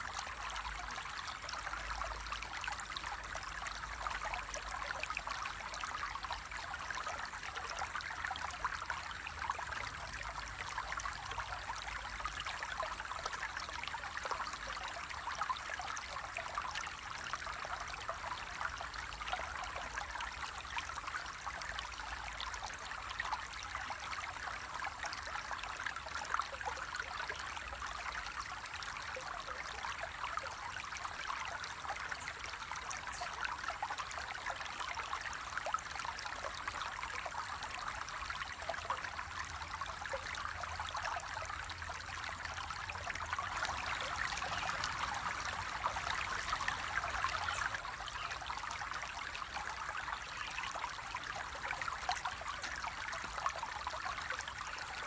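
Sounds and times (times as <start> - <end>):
water babbling over stones: 0.0 - 55.0.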